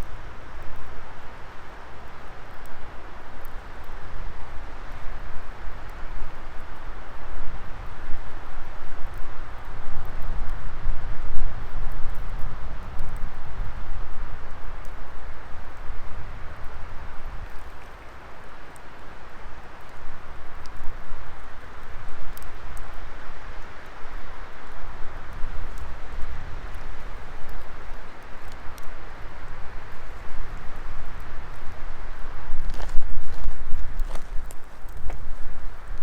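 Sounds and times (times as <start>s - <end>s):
fire crackles and pops: 0.0s - 36.0s
wood fire burning: 0.0s - 36.0s.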